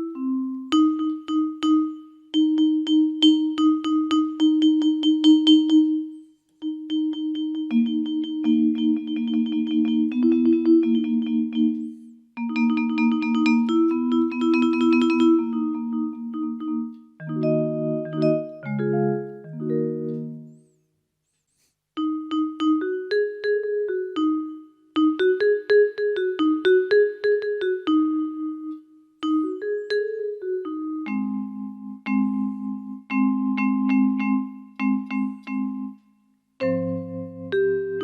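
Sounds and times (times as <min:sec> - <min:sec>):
keyboard playing mallet percussion: 0:00.0 - 0:20.6, 0:22.0 - 0:38.0.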